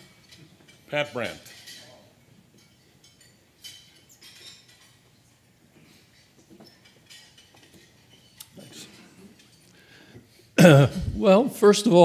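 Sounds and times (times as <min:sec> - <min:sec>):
cutlery and dishes clinking: 0:00.0 - 0:09.7.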